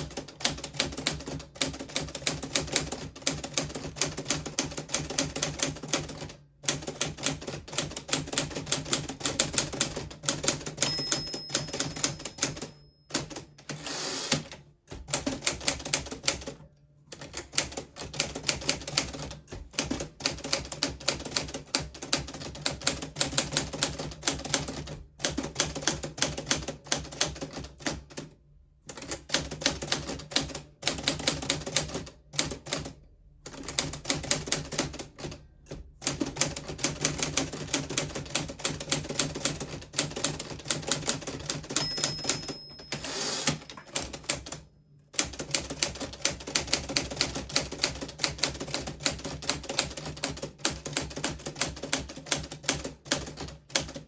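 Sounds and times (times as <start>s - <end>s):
manual typewriter typing: 0.0s - 54.0s.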